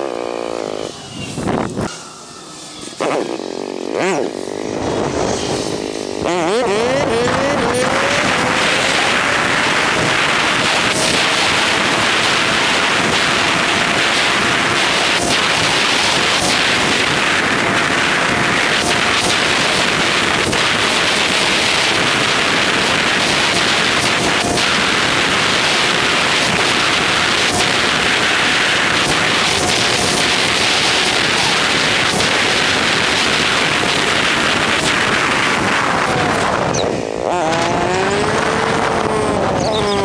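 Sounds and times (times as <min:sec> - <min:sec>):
motorcycle engine: 0:00.0 - 0:40.0
wind noise on microphone: 0:01.1 - 0:01.9, 0:04.6 - 0:40.0.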